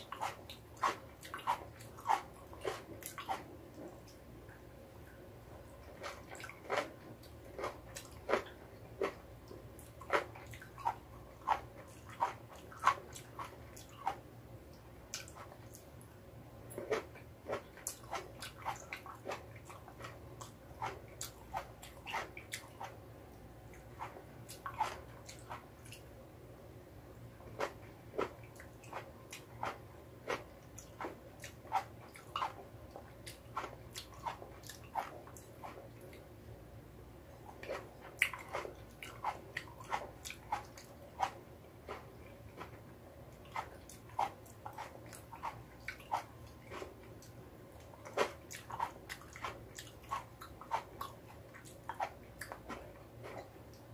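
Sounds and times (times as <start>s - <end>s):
tomatoes being chewed: 0.0s - 26.1s, 27.2s - 36.4s, 37.3s - 53.9s.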